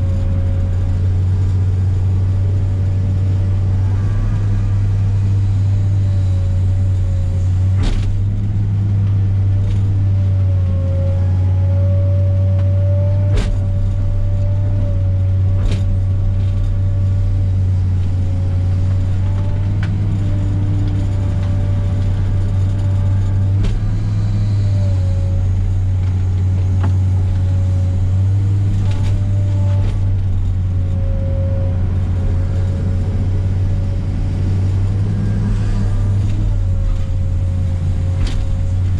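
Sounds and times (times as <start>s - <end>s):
excavator diesel engine running: 0.0s - 38.9s
hydraulic whine: 0.0s - 38.9s.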